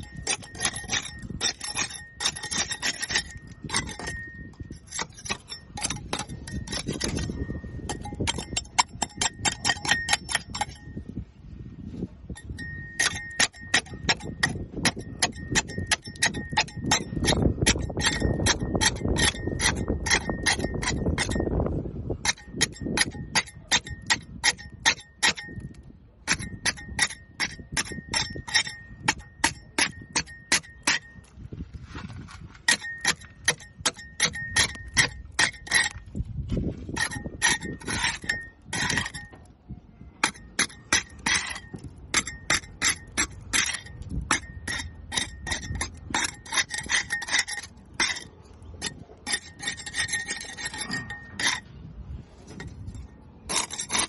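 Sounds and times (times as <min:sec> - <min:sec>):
scraper clinking on boat hull: 0:00.0 - 0:11.1, 0:12.3 - 0:21.6, 0:22.2 - 0:39.5, 0:40.2 - 0:51.8, 0:52.4 - 0:54.0.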